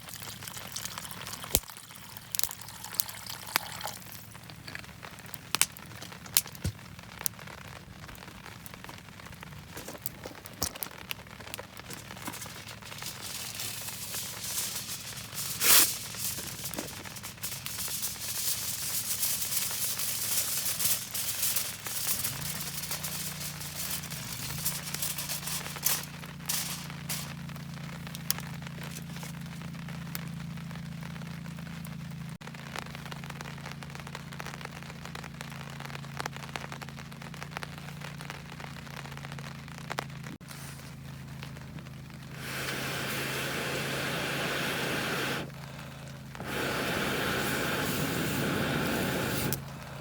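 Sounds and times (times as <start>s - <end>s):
crackling and rustling: 3.4s - 50.0s.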